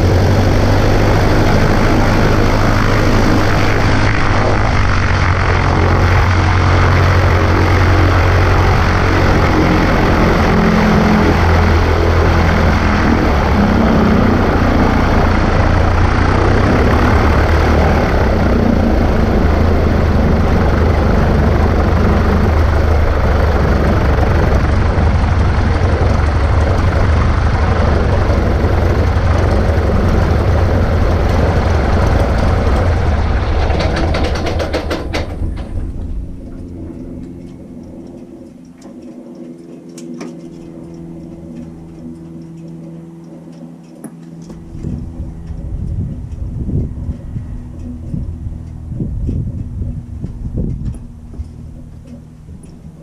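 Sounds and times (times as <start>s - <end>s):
piston aircraft engine and propeller: 0.0s - 53.0s.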